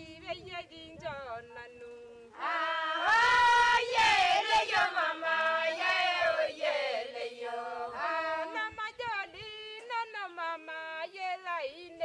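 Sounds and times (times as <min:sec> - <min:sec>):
women singing together: 0:02.4 - 0:12.0.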